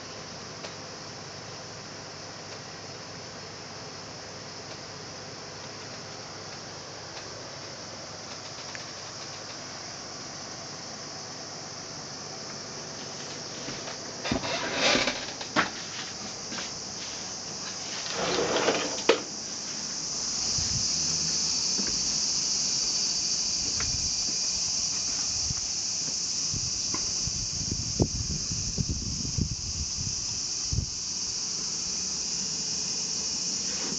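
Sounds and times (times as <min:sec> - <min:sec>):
steady high hiss: 0:00.0 - 0:33.9.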